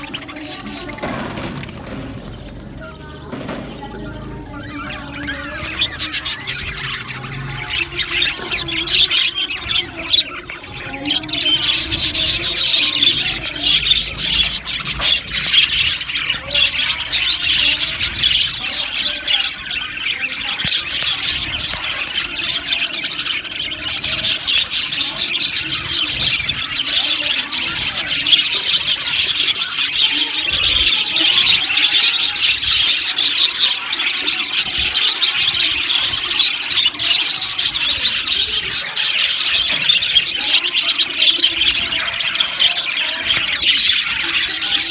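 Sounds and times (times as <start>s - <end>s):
budgerigars chirping: 0.0s - 44.9s.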